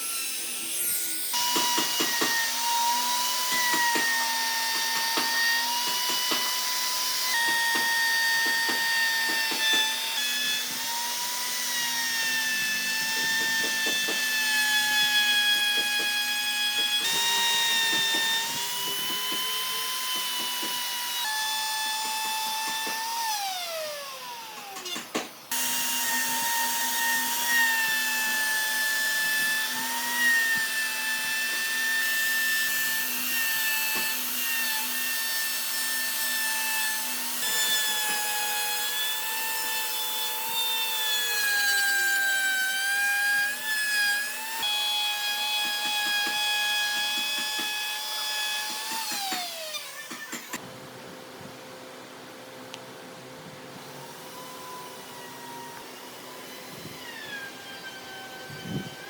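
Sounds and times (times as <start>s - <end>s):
power tool whining cutting wood: 0.0s - 50.6s, 53.8s - 59.0s.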